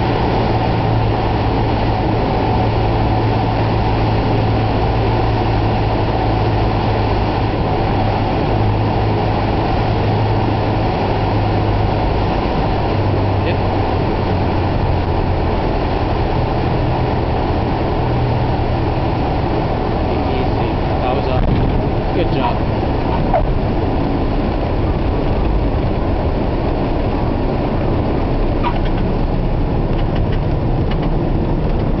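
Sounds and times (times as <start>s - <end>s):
light aircraft engine drone: 0.0s - 32.0s
wind inside cabin: 0.0s - 32.0s.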